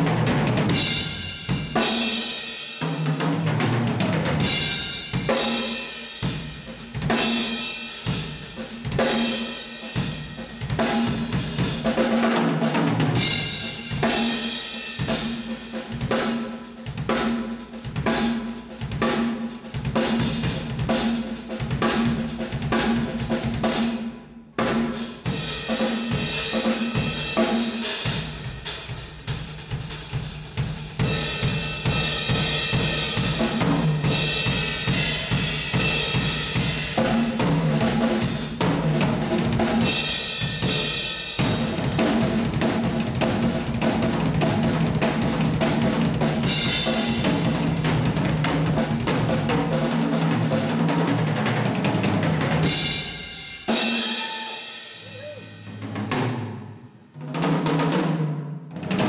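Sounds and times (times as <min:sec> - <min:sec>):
drum kit solo: 0:00.0 - 0:59.0.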